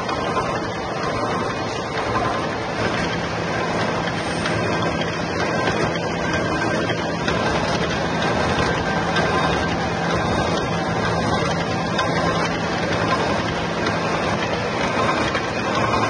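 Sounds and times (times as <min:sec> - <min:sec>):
constant low hum: 0:00.0 - 0:16.0
machine whirring: 0:00.0 - 0:16.0.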